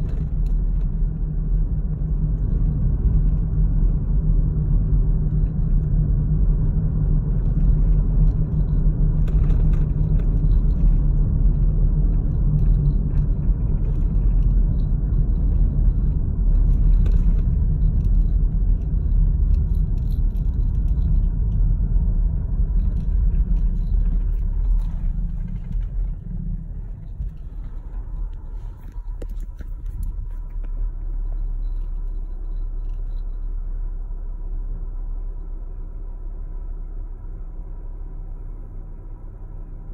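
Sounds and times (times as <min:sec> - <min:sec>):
car cabin road and engine rumble: 0:00.0 - 0:39.9.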